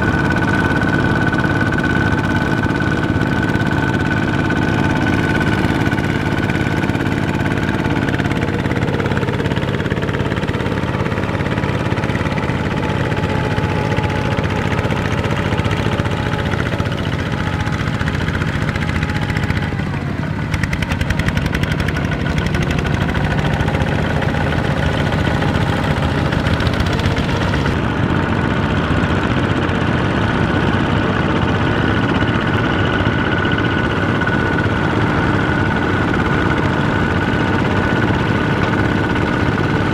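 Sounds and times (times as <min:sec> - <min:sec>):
diesel tractor engines running: 0:00.0 - 0:39.9.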